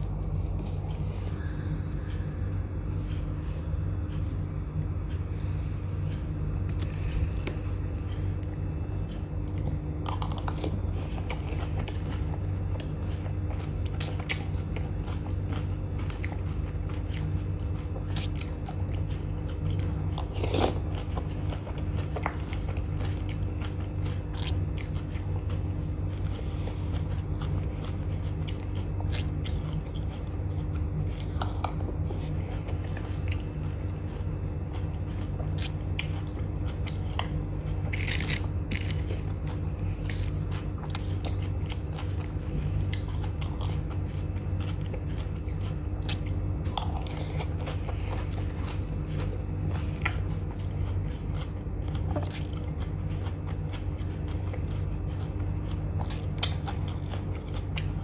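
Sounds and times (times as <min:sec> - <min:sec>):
biting and chewing crisp food: 0:00.0 - 0:58.0
low hum: 0:00.0 - 0:58.0.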